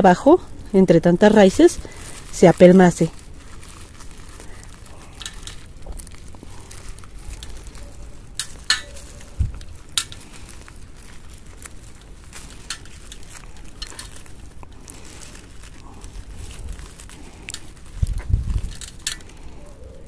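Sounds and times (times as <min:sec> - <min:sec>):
dry roots and soil crackling: 0:00.0 - 0:20.0.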